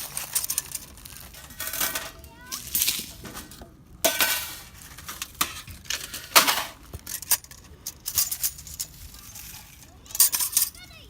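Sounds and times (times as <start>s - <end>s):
metal camp gear clattering: 0.0s - 11.0s.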